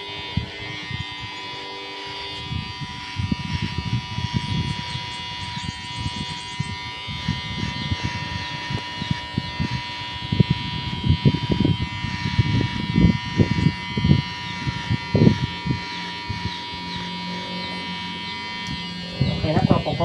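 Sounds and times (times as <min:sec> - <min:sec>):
hair clipper buzzing: 0:00.0 - 0:20.0.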